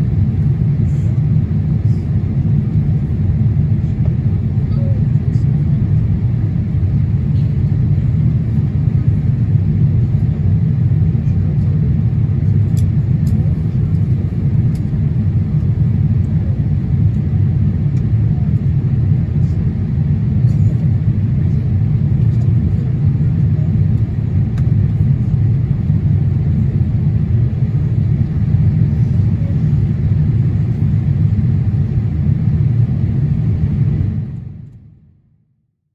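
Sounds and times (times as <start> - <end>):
airplane cabin engine rumble: 0.0 - 35.2.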